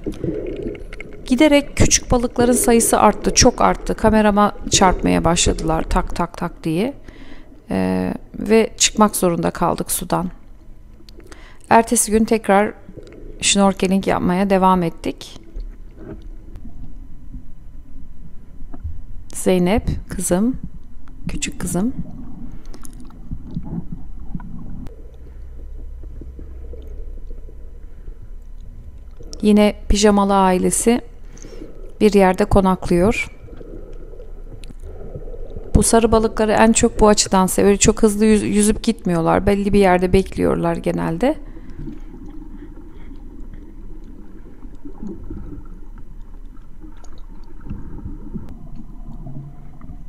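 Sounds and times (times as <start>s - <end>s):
underwater rumbling and sloshing: 0.0s - 8.4s, 9.3s - 50.0s.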